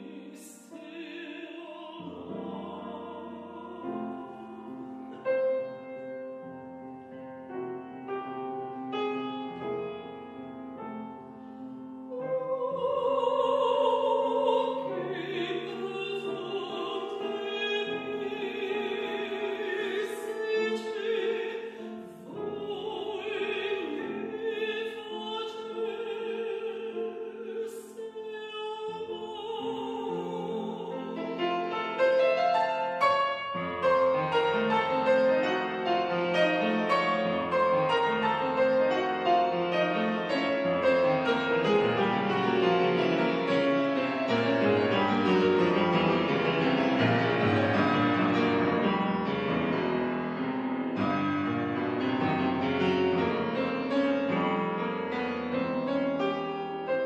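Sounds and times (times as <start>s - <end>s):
grand piano: 0.0s - 57.0s
soprano singing: 0.0s - 57.0s.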